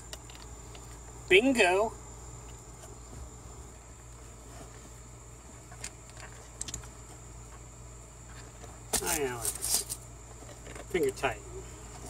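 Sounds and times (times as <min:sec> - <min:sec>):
insects trilling: 0:00.0 - 0:12.0
low hum: 0:00.0 - 0:12.0.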